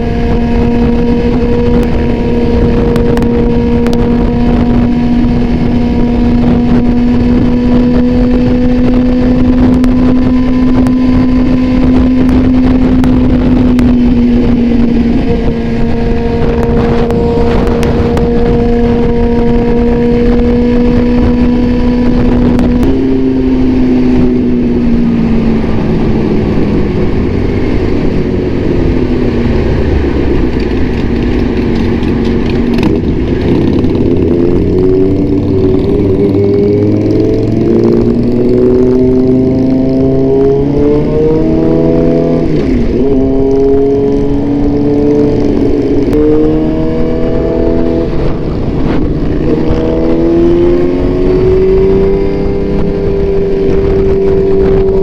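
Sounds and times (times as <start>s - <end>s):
motorcycle engine at speed: 0.0s - 55.0s
wind and road noise: 0.0s - 55.0s.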